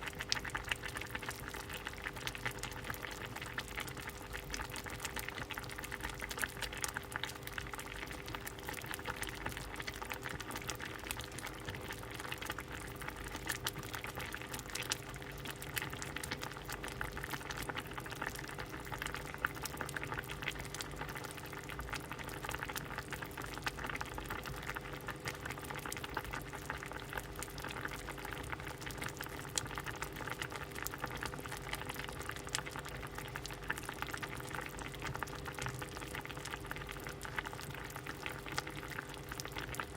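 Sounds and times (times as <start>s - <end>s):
faint steady hum: 0.0s - 39.9s
soup bubbling in a pot: 0.0s - 39.9s.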